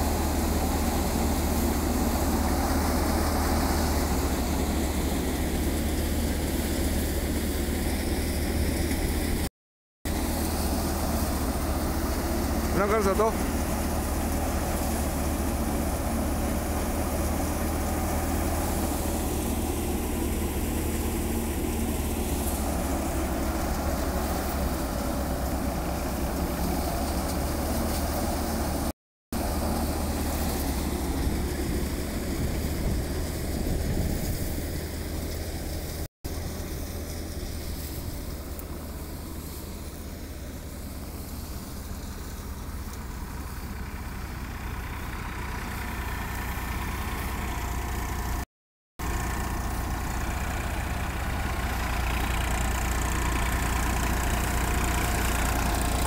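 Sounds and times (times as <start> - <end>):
low engine drone: 0.0 - 9.5, 10.1 - 56.0
threshing machine whirring: 0.0 - 9.5, 10.1 - 48.4, 49.0 - 56.0.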